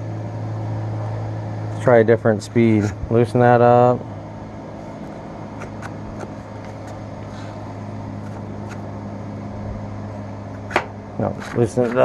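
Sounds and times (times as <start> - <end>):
lathe mechanical hum: 0.0 - 12.0.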